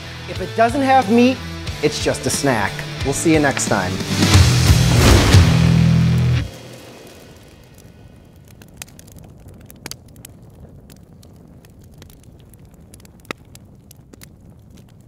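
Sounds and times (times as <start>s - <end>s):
charcoal fire crackling: 0.3s - 15.0s.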